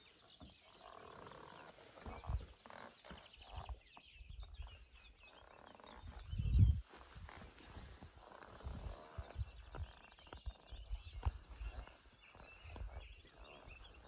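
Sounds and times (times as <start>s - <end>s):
small birds chirping and trilling: 0.0s - 14.0s.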